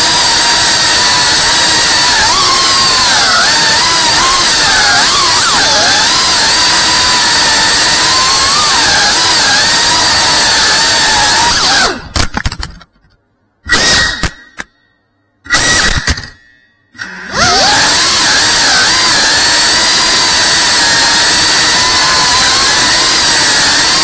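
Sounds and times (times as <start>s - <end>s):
quadcopter motors whining: 0.0s - 12.1s, 13.7s - 14.7s, 15.5s - 16.3s, 17.0s - 24.0s.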